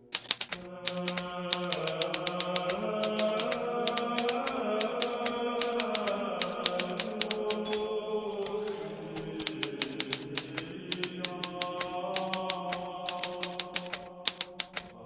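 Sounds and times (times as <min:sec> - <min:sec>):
typewriter keys striking: 0:00.0 - 0:14.9.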